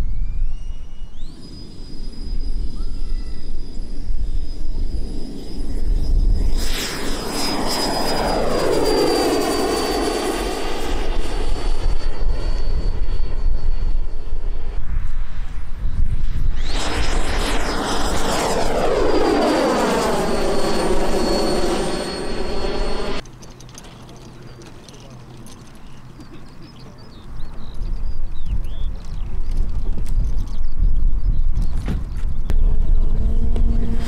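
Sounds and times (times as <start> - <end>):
model airplane propeller whine: 0.0 - 34.0.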